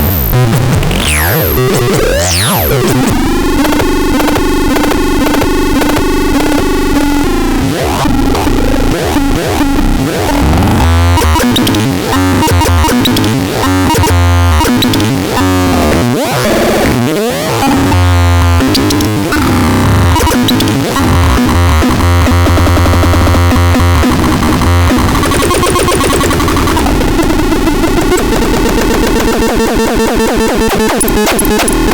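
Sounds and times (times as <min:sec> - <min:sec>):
heavy synth bass: 0:00.0 - 0:31.9
synthesizer electronic tones: 0:00.0 - 0:31.9.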